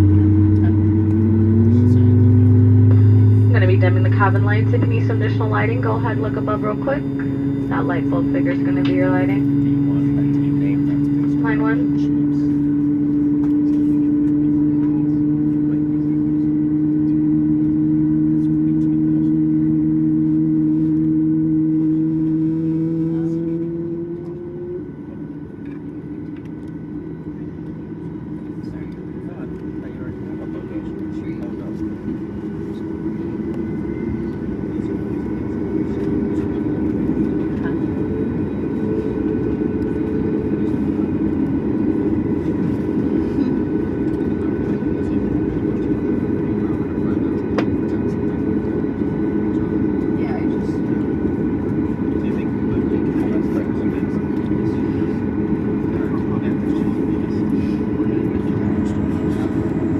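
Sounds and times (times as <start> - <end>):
aircraft cabin engine drone: 0.0 - 59.9
faint whining tones: 0.0 - 59.9.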